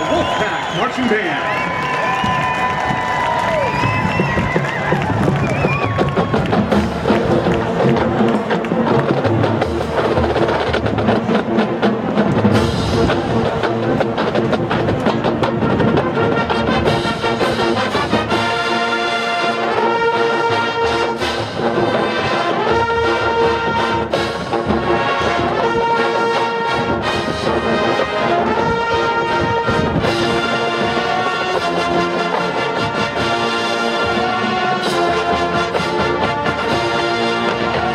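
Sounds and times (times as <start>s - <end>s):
brass chords: 6.5s - 37.9s.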